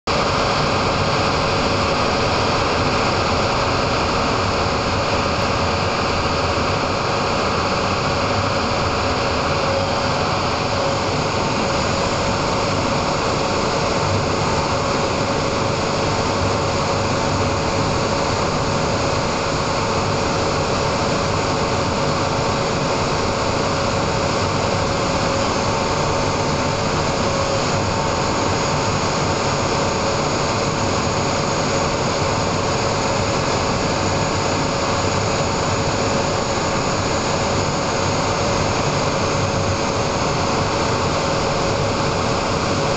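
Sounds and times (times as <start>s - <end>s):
diesel generator engine drone: 0.0s - 42.9s
faint steady whine: 0.1s - 42.9s.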